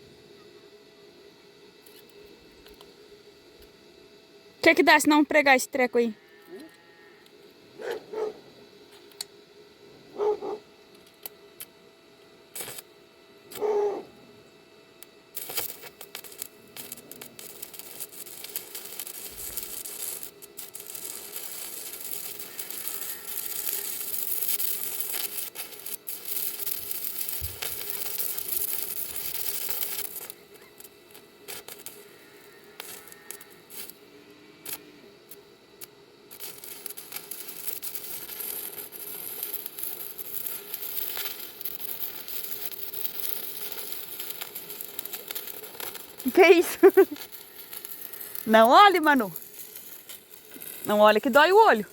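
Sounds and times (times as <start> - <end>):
electric arc welding crackle: 1.8 - 3.0, 4.6 - 9.4, 12.5 - 14.1, 15.0 - 51.9.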